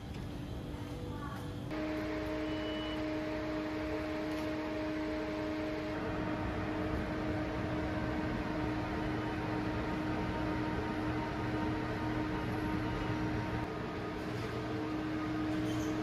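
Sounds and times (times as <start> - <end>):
electric train humming: 1.7 - 16.0.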